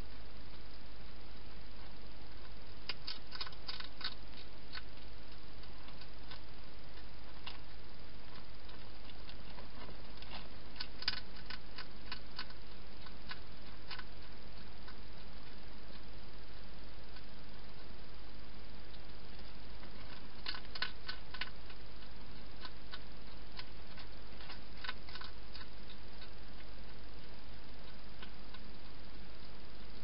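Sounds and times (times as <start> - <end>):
steady hiss: 0.0 - 30.0
hedgehog crunching food: 0.4 - 30.0.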